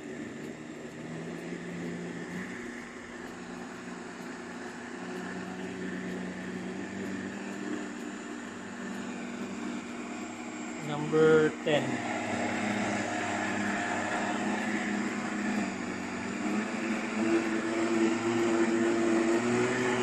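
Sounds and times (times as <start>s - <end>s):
blender motor whirring: 0.0s - 20.0s.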